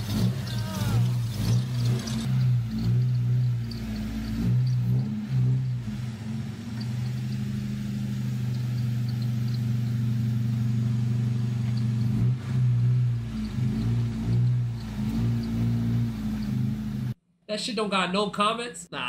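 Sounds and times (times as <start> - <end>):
car engine running and revving: 0.0 - 17.2.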